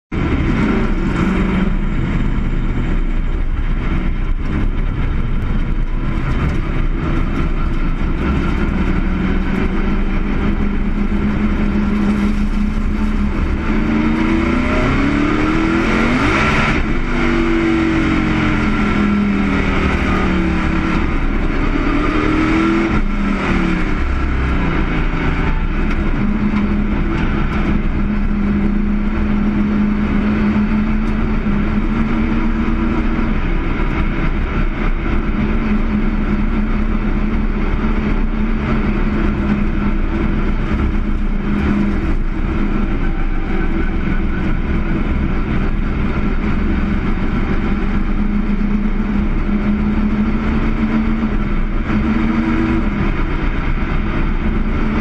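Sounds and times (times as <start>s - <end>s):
racing car engine revving: 0.2s - 55.0s.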